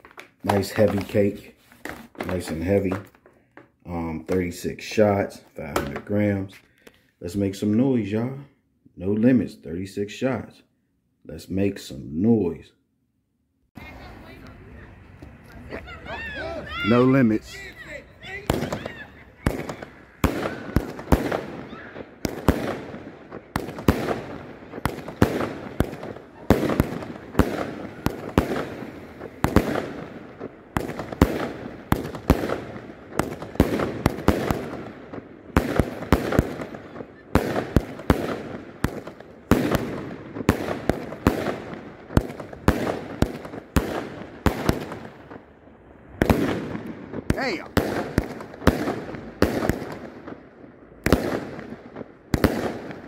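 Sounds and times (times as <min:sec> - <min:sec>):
firework crackling: 0:00.0 - 0:03.2, 0:13.8 - 0:53.0
fireworks launching and banging: 0:00.0 - 0:06.4, 0:13.8 - 0:53.0.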